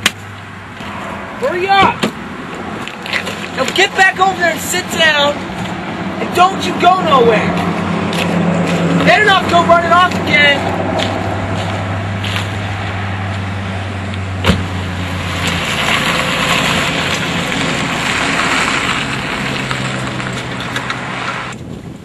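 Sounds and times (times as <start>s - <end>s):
car engine humming: 0.0s - 21.8s
road noise: 0.0s - 22.0s.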